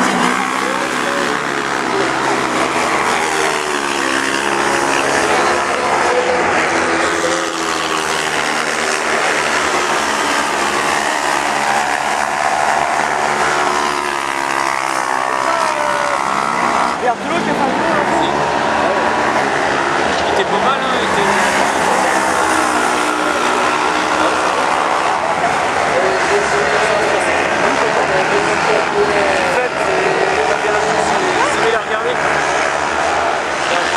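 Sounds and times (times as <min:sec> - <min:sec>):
racing buggy engines revving: 0:00.0 - 0:33.9.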